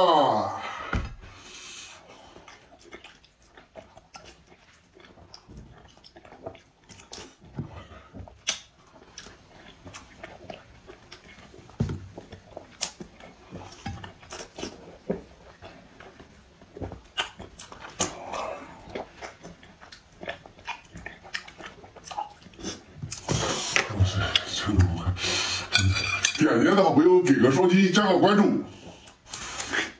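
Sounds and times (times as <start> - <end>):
wet chewing: 1.4 - 26.3.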